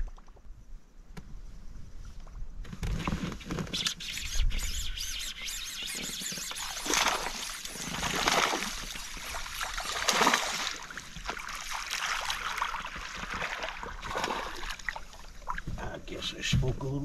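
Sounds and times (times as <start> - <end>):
water splashing and lapping: 2.2 - 15.9.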